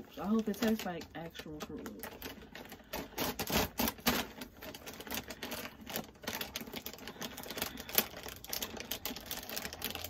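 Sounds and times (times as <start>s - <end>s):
dry cereal rattling: 0.0s - 10.0s.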